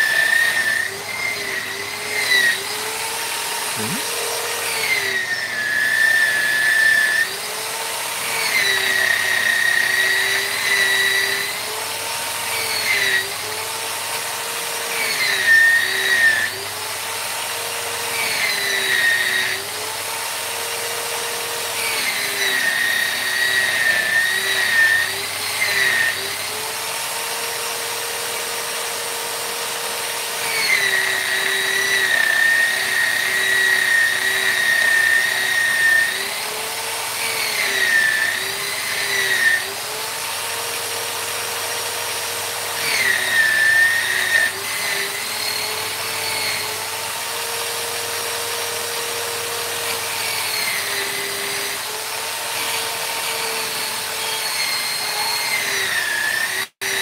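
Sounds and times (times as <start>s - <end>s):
rotary power tool whining: 0.0s - 57.0s.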